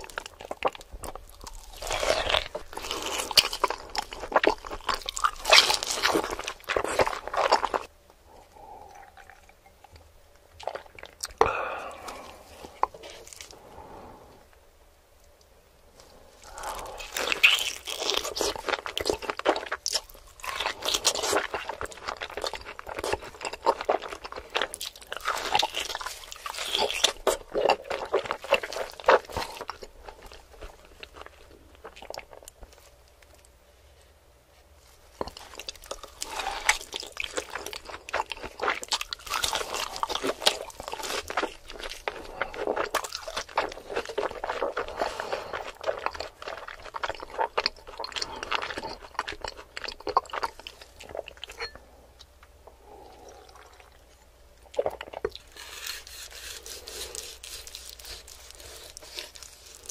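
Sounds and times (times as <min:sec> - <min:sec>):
close-miked chewing of meat: 0:00.0 - 0:07.9, 0:16.3 - 0:32.9, 0:35.2 - 0:59.9
crunching of crust: 0:00.0 - 0:07.9, 0:10.6 - 0:13.6, 0:15.9 - 0:33.5, 0:34.8 - 0:51.8, 0:54.6 - 0:59.9.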